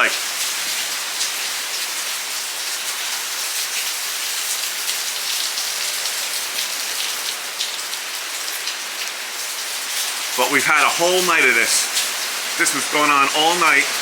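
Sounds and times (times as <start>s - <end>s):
heavy rain pattering: 0.0s - 14.0s.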